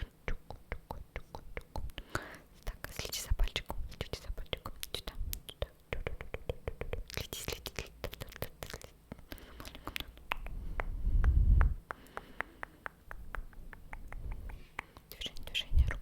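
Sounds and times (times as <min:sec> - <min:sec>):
wet mouth clicks: 0:00.2 - 0:16.0.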